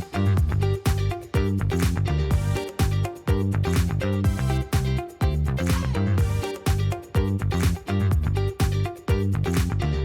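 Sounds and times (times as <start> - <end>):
electronic dance music: 0.0 - 9.8.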